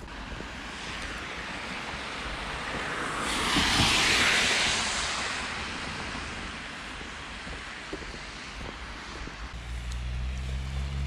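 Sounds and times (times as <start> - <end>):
car tyres hissing on wet road: 0.2 - 11.0.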